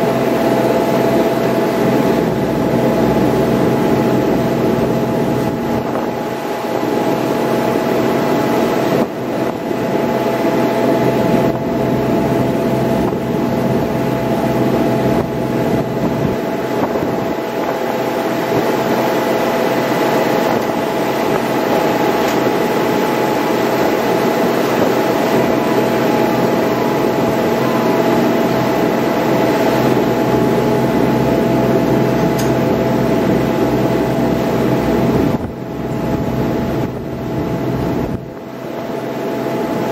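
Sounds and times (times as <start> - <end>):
boat engines droning: 0.0 - 39.9.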